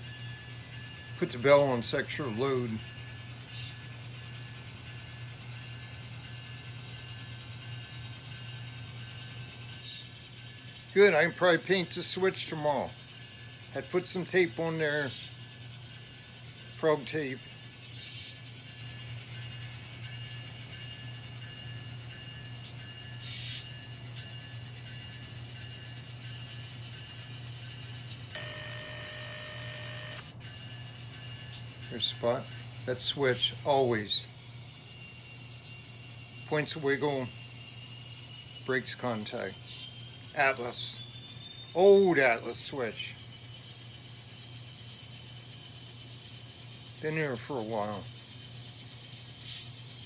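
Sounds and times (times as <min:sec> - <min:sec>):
model locomotive humming: 0:00.0 - 0:50.0
thin high whine: 0:00.0 - 0:50.0.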